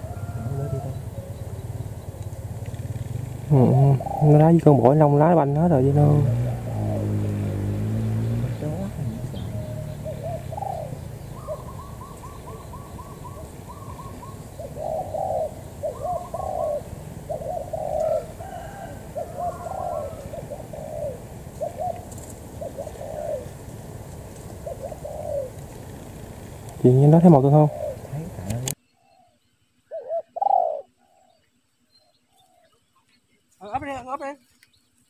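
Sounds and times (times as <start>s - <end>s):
doves cooing: 0.0s - 33.0s.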